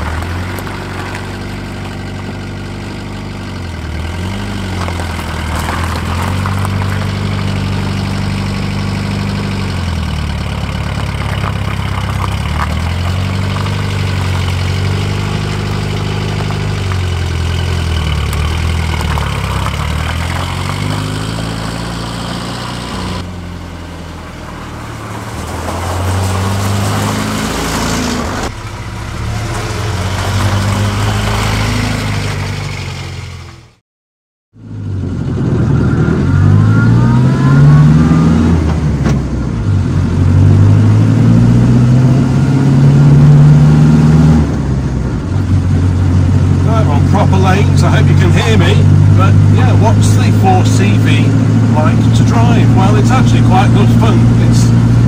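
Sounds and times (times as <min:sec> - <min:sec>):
small car engine running: 0:00.0 - 0:33.8, 0:34.6 - 0:55.0.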